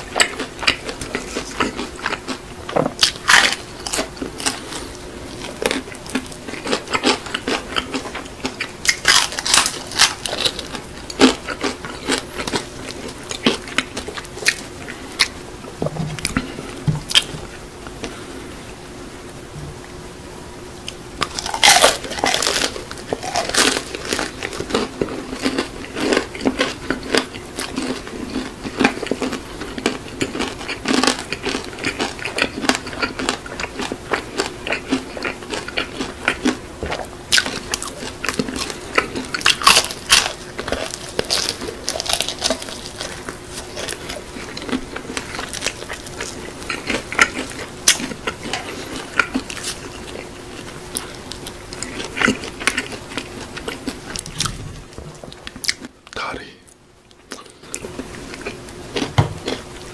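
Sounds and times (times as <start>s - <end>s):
fried chicken crunching being chewed: 0.0s - 18.3s, 20.9s - 56.5s, 57.1s - 59.9s.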